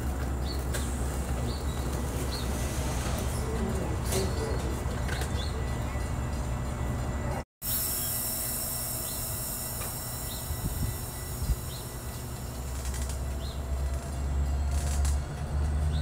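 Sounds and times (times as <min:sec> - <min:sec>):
low train rumble: 0:00.0 - 0:16.0
train rolling slowly: 0:00.0 - 0:16.0.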